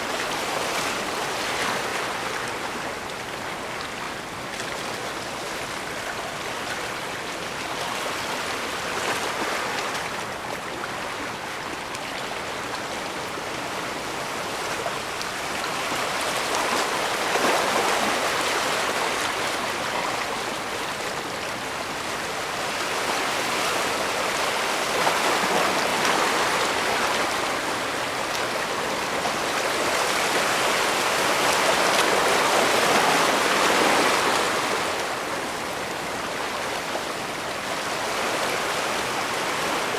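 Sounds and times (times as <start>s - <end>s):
waves washing against shore: 0.0s - 39.9s.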